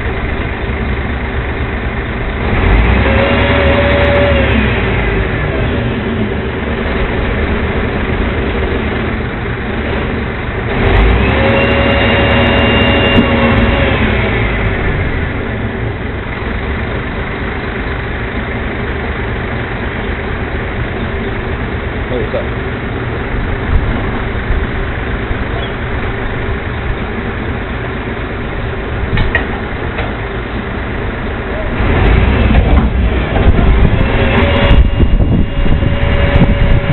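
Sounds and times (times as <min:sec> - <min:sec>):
garbage truck engine revving: 0:00.0 - 0:36.9
hydraulics whine: 0:00.0 - 0:36.9.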